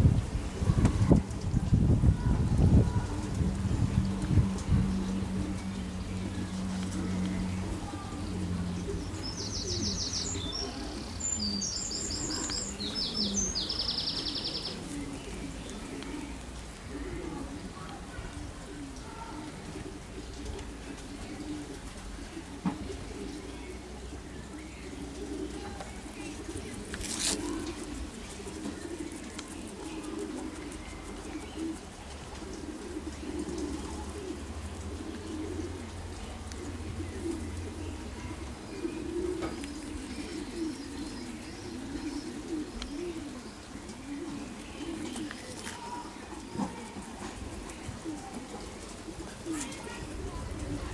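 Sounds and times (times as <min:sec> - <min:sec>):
pigeons cooing: 0:00.0 - 0:50.9.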